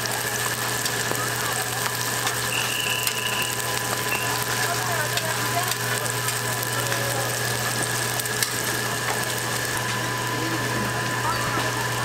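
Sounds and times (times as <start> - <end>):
pancakes sizzling in oil: 0.0 - 12.0.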